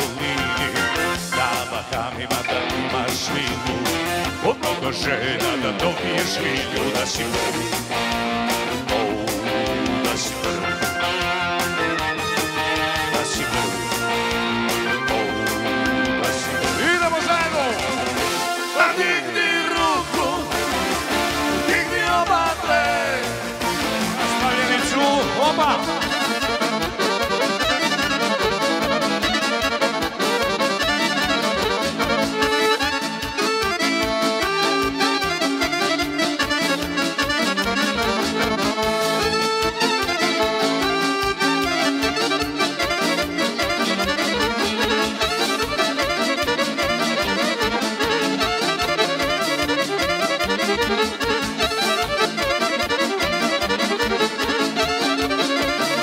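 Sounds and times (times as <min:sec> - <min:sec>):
accordion lead melody: 0:00.0 - 0:56.0
fast keyboard beat: 0:00.0 - 0:56.0.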